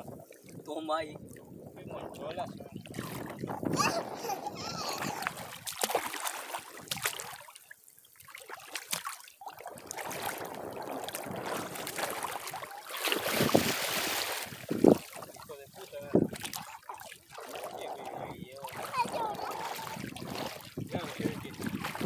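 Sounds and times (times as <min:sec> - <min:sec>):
wind on microphone: 0:00.0 - 0:05.8, 0:09.7 - 0:22.0
lake water lapping: 0:00.0 - 0:22.0.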